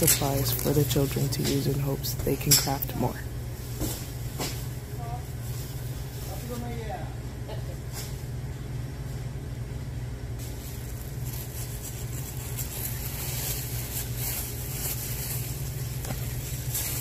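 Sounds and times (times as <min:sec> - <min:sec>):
plastic bags rustling: 0:00.0 - 0:07.0, 0:10.4 - 0:17.0
low machine hum: 0:00.0 - 0:17.0.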